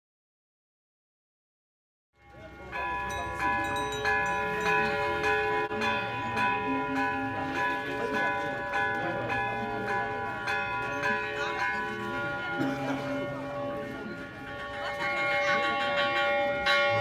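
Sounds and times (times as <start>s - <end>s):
metal bells ringing: 2.2s - 17.0s.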